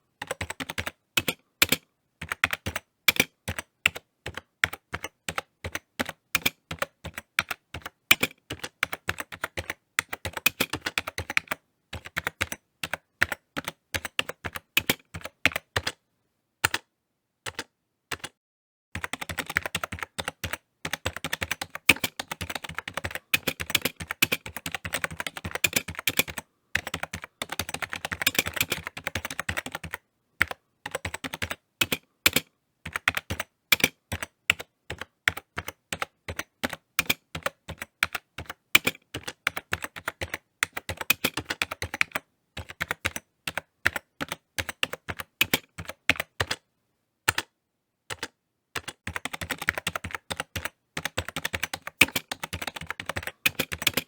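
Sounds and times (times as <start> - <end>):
typing on computer keyboard: 0.2 - 16.0, 16.6 - 16.9, 17.5 - 18.4, 19.0 - 46.6, 47.3 - 54.0.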